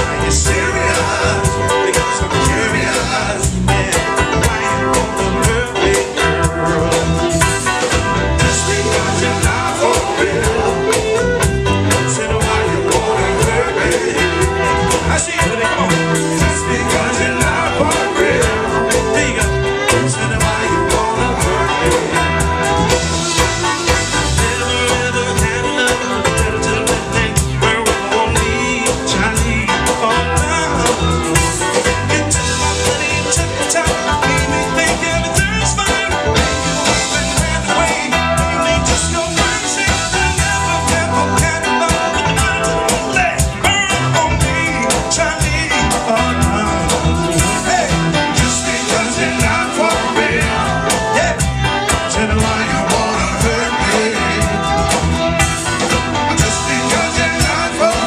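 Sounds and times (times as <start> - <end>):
guitar: 0.0 - 58.0
live soul band playing: 0.0 - 58.0
person singing: 0.0 - 58.0
steady drum beat: 0.0 - 58.0.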